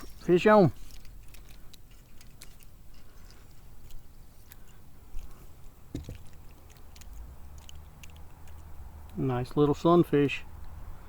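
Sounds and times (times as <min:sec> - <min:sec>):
light clicks and handling noises: 0:00.0 - 0:09.8.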